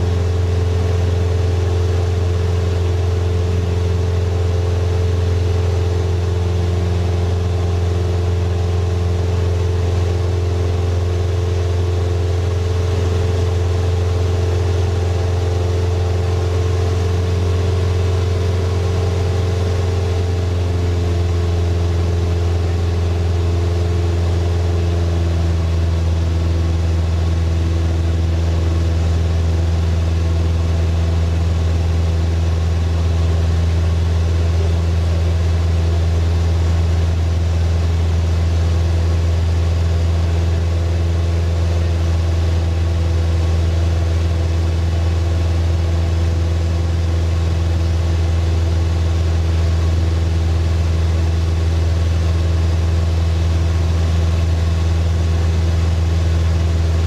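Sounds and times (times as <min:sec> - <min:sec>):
plane engine and propeller droning: 0:00.0 - 0:57.0.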